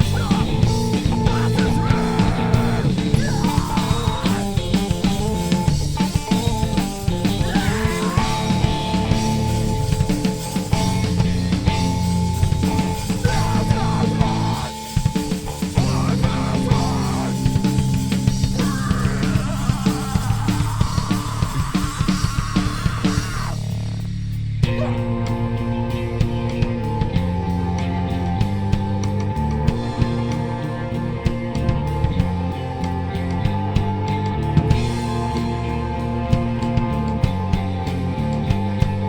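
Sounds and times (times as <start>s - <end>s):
rock band playing live: 0.0s - 39.0s.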